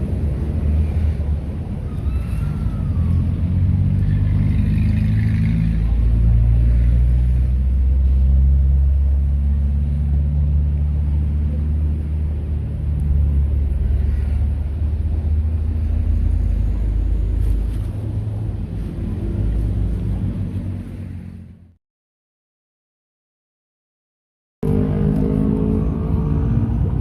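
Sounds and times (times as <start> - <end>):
large engine humming: 0.0 - 21.8, 24.6 - 27.0.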